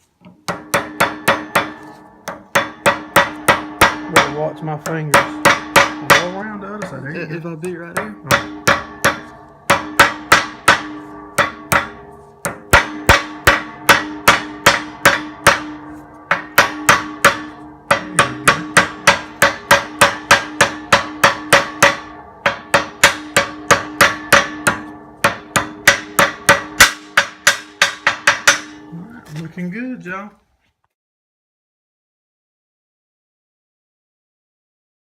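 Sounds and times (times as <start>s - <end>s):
hammer tapping on metal: 0.2s - 28.9s.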